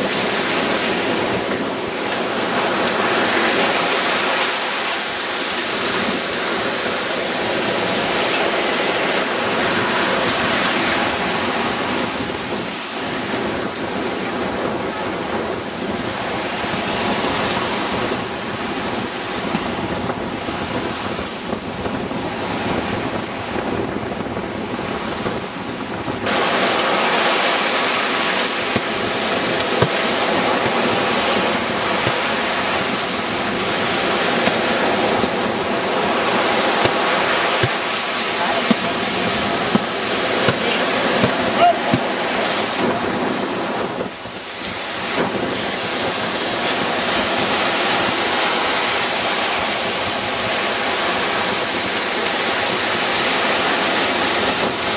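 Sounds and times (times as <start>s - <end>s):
surf breaking on a beach: 0.0s - 54.9s.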